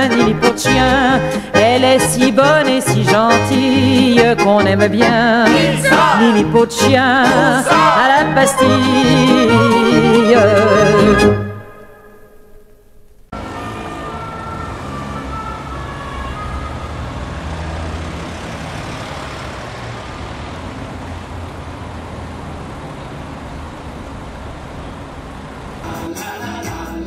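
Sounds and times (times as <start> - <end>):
passing vehicles: 0.0 - 11.8, 13.2 - 27.0.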